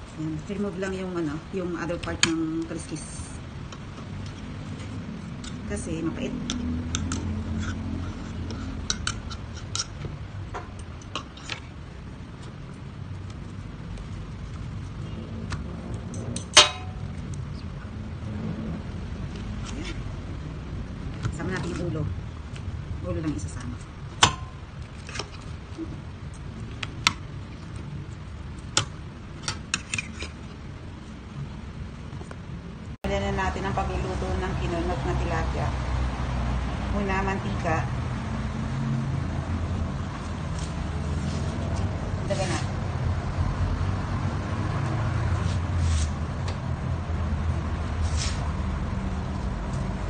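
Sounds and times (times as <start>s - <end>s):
low background rumble: 0.0s - 50.0s
steady low hum: 0.0s - 50.0s.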